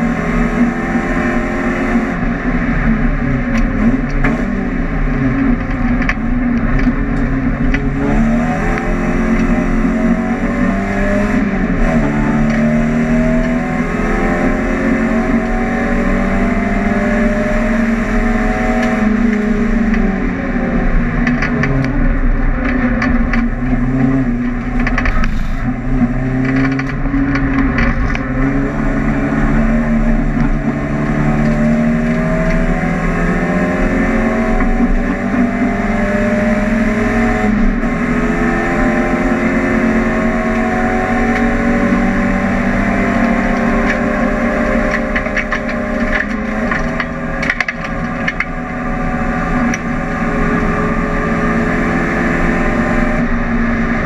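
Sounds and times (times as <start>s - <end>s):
car engine revving under load: 0.0s - 54.0s.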